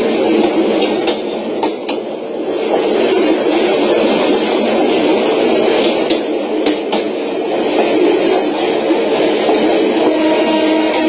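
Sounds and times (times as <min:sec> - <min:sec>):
train running on rails: 0:00.0 - 0:11.0.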